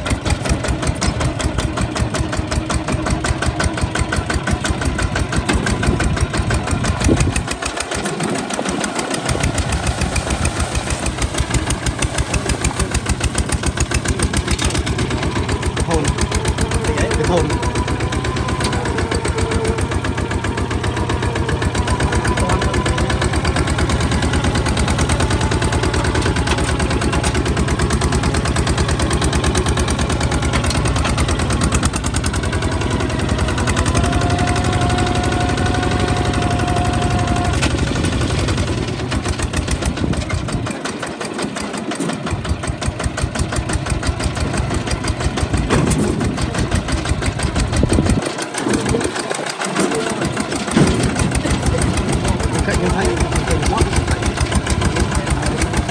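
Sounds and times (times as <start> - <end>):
tractor diesel engine chugging: 0.0 - 55.9.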